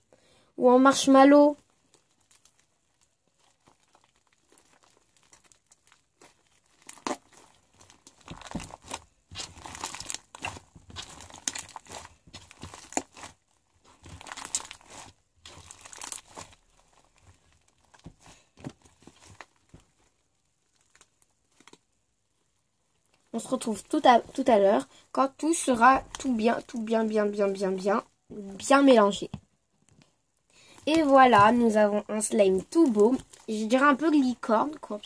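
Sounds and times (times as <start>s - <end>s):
slime squelching: 0.8s - 29.4s, 30.5s - 35.0s.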